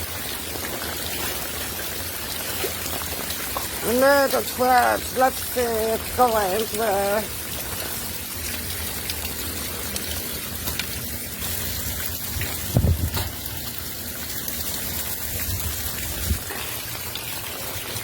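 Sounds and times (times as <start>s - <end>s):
floodwater gushing: 0.0s - 18.0s
heavy rain: 0.0s - 18.0s.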